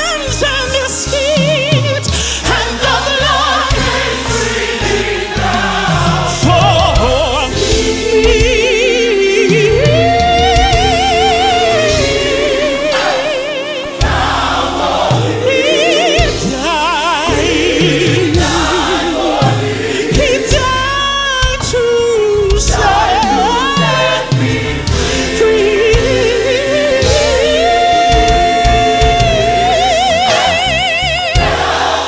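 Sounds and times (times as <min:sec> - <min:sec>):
gospel choir singing: 0:00.0 - 0:32.0
live band accompaniment: 0:00.0 - 0:32.0.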